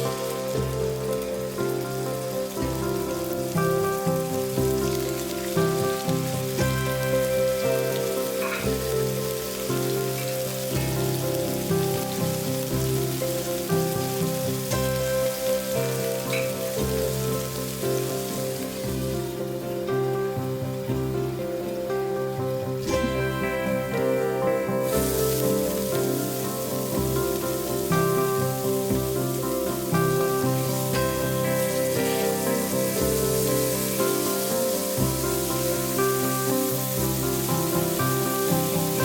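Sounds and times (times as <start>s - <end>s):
background music: 0.0s - 39.0s
frying sizzle hiss: 0.0s - 39.0s.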